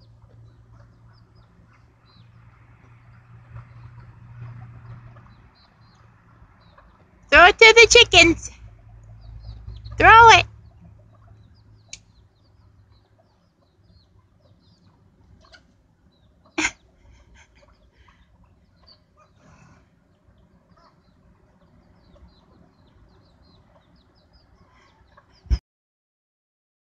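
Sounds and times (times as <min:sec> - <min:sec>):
young chickens peeping and clucking: 0:00.0 - 0:25.6.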